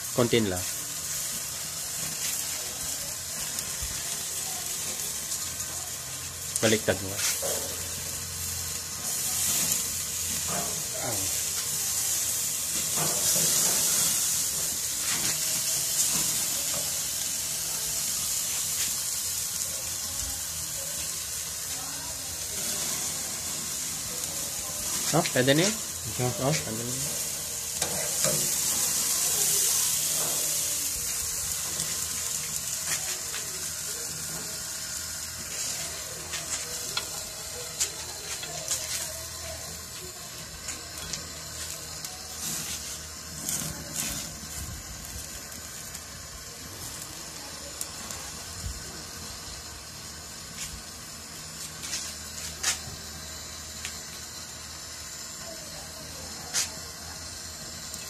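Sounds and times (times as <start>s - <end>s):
meat sizzling over flames: 0.0s - 58.0s.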